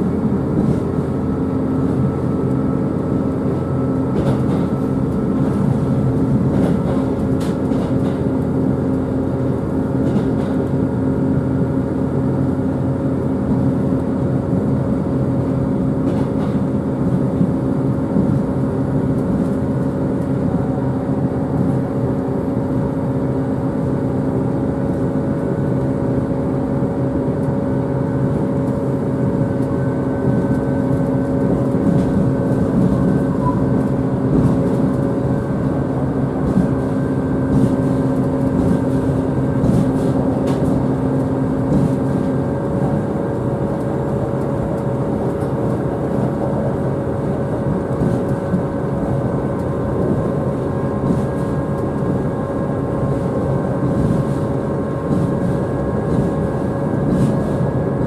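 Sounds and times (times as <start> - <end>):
diesel engine drone: 0.0 - 58.0
train wheels rumbling on rail: 0.0 - 58.0.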